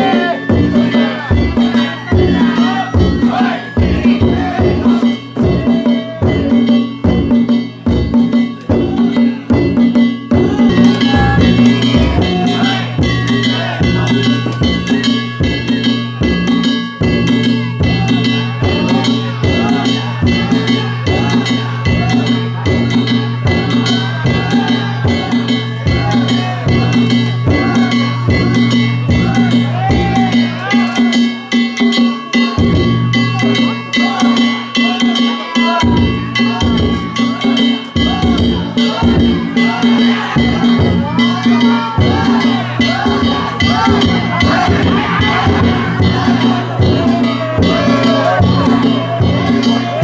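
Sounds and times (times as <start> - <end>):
ringing hand gongs: 0.0 - 50.0
taiko drums beating: 0.0 - 50.0.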